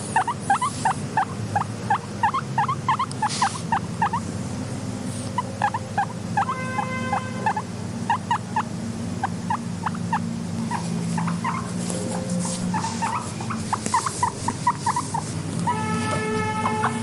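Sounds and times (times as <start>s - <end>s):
guinea pig squeaking: 0.0s - 17.0s
low steady rumble: 0.0s - 17.0s.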